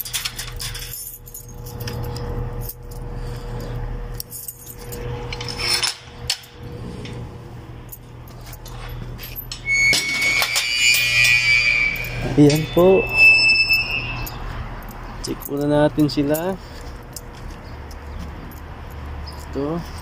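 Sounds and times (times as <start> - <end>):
keys jangling: 0.0 - 7.2, 7.8 - 10.6, 12.0 - 20.0.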